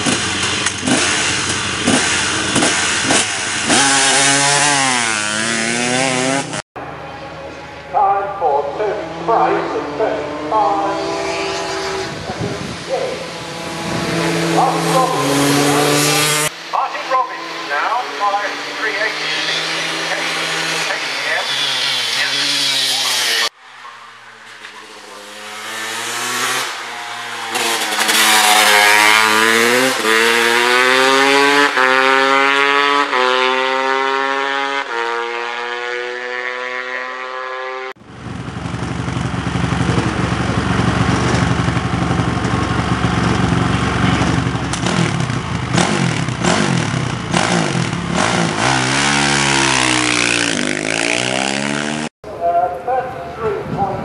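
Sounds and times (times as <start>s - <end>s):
motorcycle revving high: 0.0s - 6.6s, 7.8s - 23.6s, 24.3s - 52.1s
motorcycle accelerating through gears: 0.0s - 7.9s, 8.7s - 16.7s, 17.3s - 23.6s, 24.3s - 52.1s.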